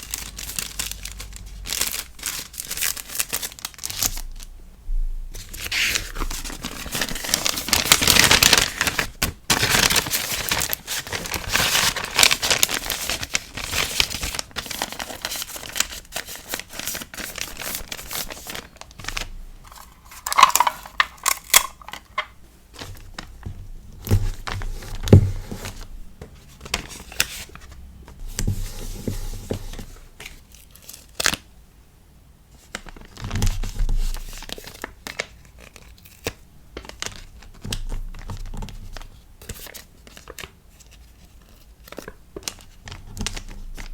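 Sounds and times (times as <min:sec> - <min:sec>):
packaging rustling and crinkling: 0:00.0 - 0:04.5, 0:05.3 - 0:31.4, 0:32.6 - 0:43.9.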